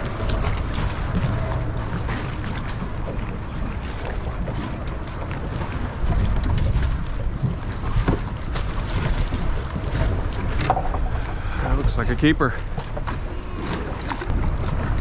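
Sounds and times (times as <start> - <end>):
water lapping around boat: 0.0 - 15.0
wind buffeting microphone: 0.0 - 15.0.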